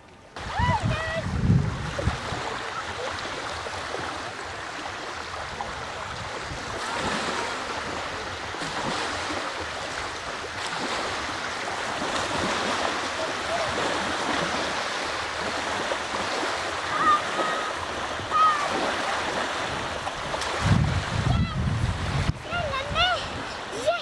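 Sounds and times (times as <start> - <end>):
small waves lapping: 0.0 - 24.0
wind buffeting microphone: 0.4 - 24.0.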